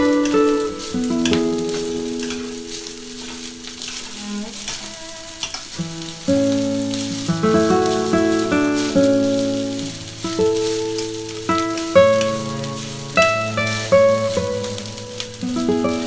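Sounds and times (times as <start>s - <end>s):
background music of held notes: 0.0s - 4.3s, 6.1s - 16.0s
rice sizzling in a pan: 0.0s - 16.0s.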